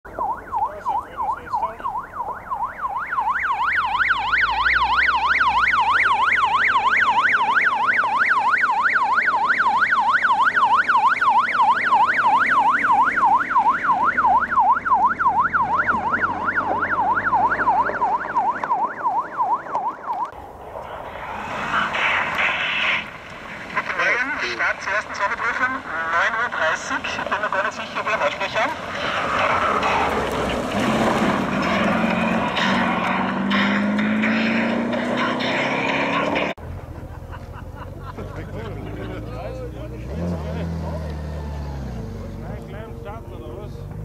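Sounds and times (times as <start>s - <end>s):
vehicle siren yelping: 0.1s - 36.6s, 39.1s - 44.0s
low vehicle rumble: 0.1s - 44.0s.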